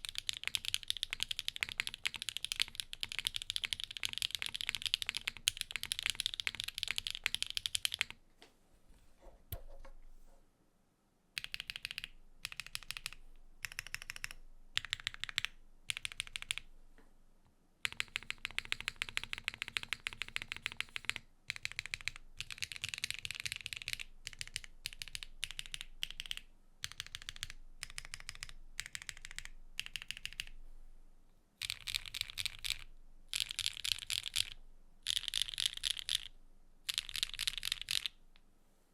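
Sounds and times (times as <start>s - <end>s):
typing on mechanical keyboard: 0.0s - 8.2s, 11.4s - 16.6s, 17.8s - 30.6s, 31.6s - 36.3s, 36.9s - 38.2s.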